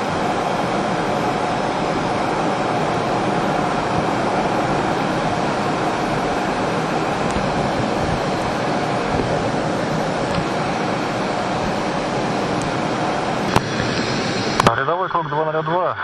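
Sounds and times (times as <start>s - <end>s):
airflow rush and jet engines: 0.0s - 16.0s.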